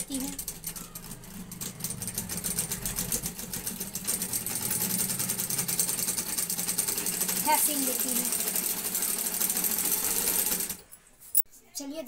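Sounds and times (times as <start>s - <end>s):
sewing machine needle strokes: 0.0s - 10.8s
sewing machine motor hum: 0.0s - 10.9s.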